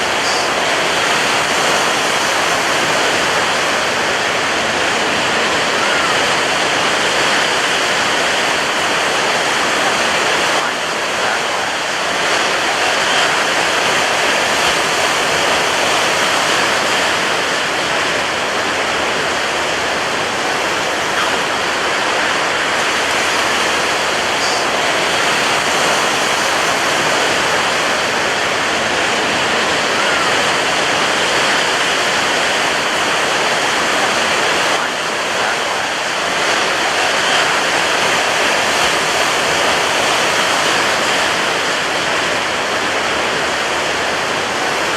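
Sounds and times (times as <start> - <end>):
ocean surf crashing: 0.0 - 44.9.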